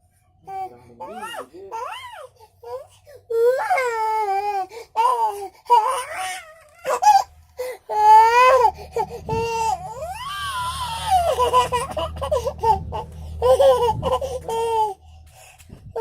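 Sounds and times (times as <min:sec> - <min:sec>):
baby squealing and wailing: 0:01.0 - 0:07.3, 0:07.9 - 0:15.0.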